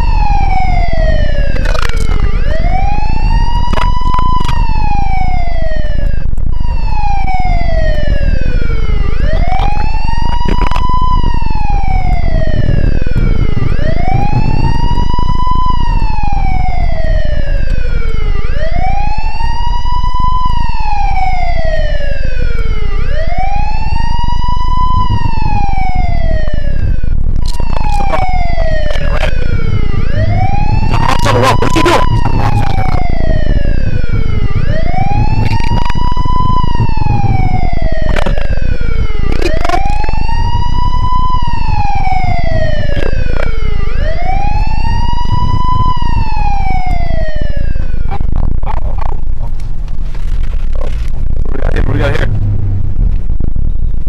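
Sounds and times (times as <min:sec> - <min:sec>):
police siren wailing: 0:00.0 - 0:53.6
car driving rumble: 0:00.0 - 0:54.0.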